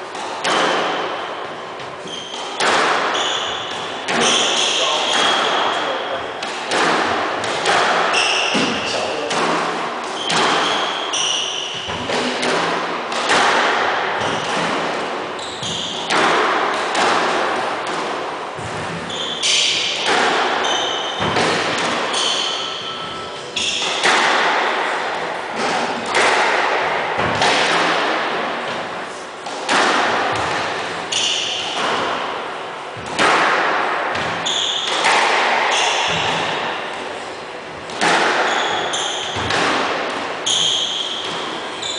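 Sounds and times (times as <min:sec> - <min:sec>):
squash ball hitting rackets and walls: 0:00.0 - 0:41.9.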